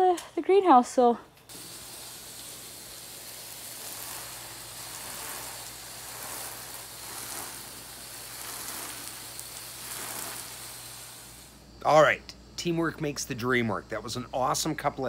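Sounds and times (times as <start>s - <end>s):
water spraying hiss: 1.5s - 15.0s.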